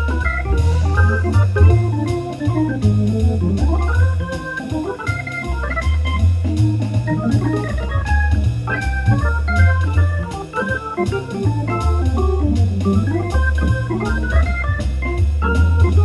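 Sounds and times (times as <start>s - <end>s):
organ melody with bass notes: 0.0s - 16.0s.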